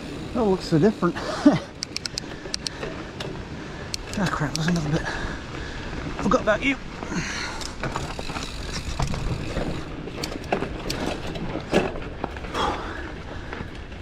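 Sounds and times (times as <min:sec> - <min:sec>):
bike rattling over bumps: 0:00.0 - 0:14.0
tyre and wind rush: 0:00.0 - 0:14.0.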